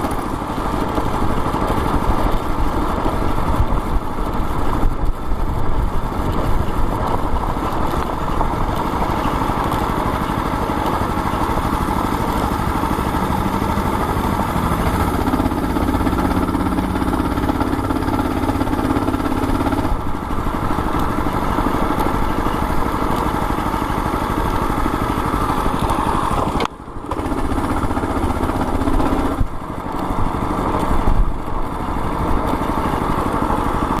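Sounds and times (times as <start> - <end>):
small engine running: 0.0 - 34.0.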